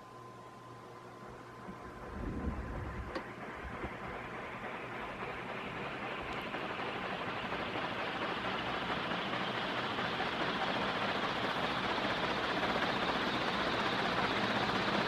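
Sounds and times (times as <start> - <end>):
ceiling fan rushing air: 0.0 - 15.0.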